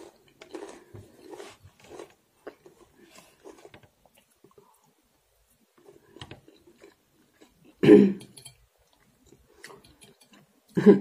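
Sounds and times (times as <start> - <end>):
person chewing: 0.0 - 10.8.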